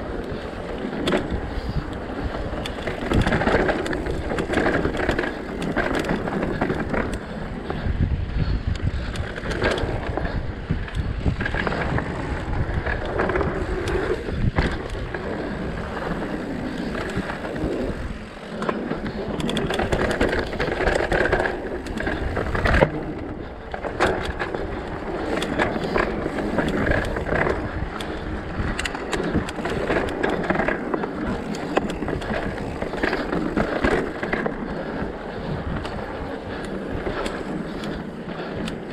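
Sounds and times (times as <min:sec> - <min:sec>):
bike rattling over bumps: 0:00.0 - 0:38.9
bike tyres crunching over stones: 0:00.0 - 0:38.9.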